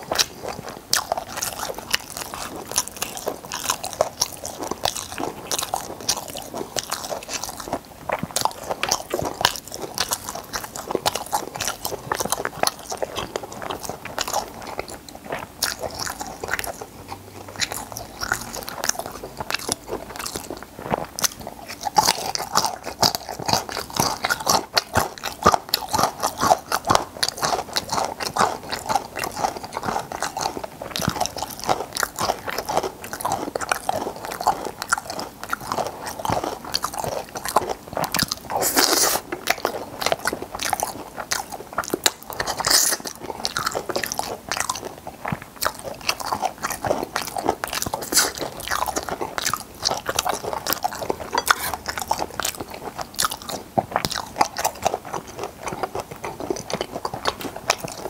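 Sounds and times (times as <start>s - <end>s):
wet chewing clicks: 0.0s - 58.0s.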